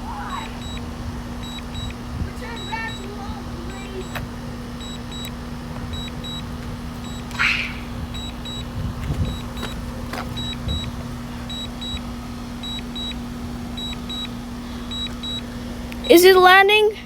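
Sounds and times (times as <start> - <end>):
short double warning beeps: 0.0 - 16.6
steady low hum: 0.0 - 17.0.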